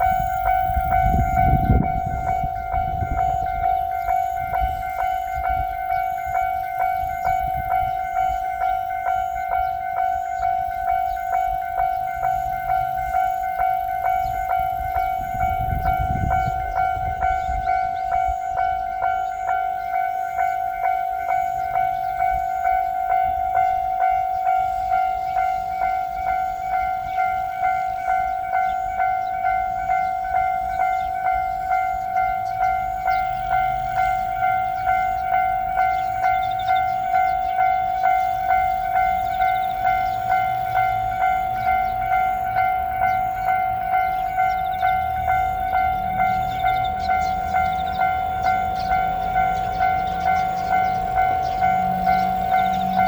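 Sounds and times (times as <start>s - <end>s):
railroad crossing warning bell: 0.0s - 53.0s.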